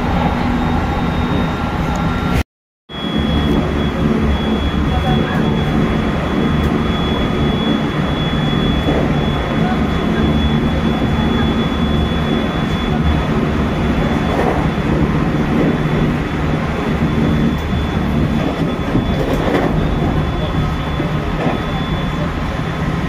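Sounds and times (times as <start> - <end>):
train wheels rumbling: 3.0 - 23.0.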